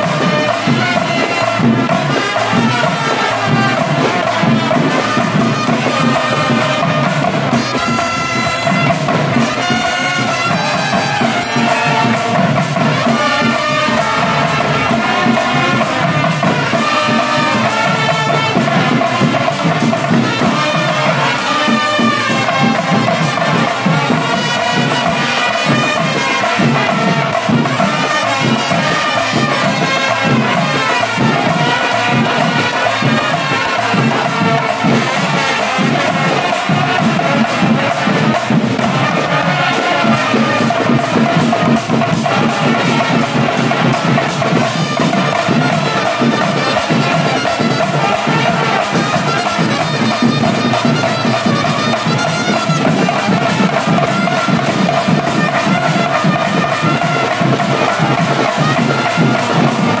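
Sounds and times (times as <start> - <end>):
barrel drums beating: 0.0 - 60.0
hand cymbals clashing: 0.0 - 60.0
trumpets playing melody: 0.0 - 60.0.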